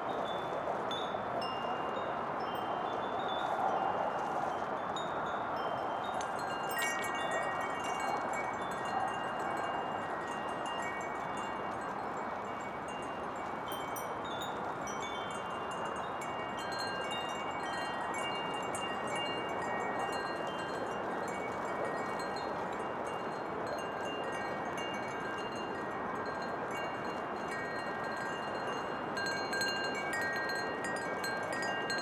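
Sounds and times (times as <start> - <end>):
wind chimes tinkling: 0.1 - 32.0.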